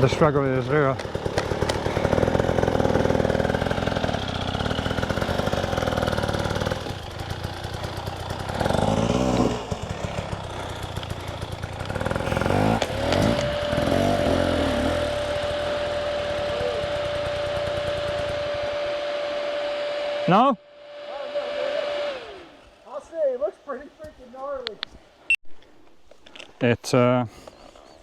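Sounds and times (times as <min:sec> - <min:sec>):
dirt bike engine revving: 0:00.0 - 0:23.1.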